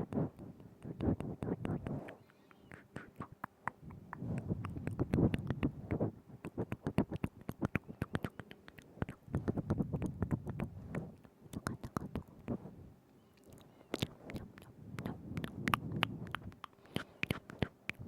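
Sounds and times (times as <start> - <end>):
wet mouth clicks and smacks: 0.4 - 12.6, 13.4 - 18.0.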